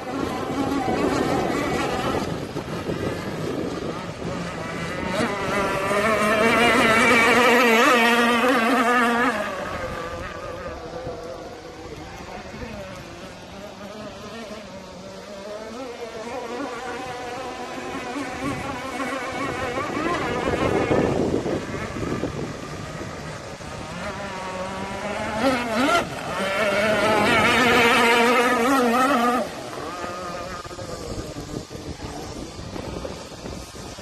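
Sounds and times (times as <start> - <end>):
model boat motor whining: 0.0 - 34.0.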